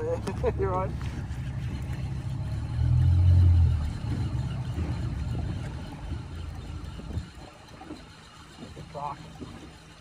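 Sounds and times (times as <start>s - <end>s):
boat motor rumbling: 0.0s - 10.0s.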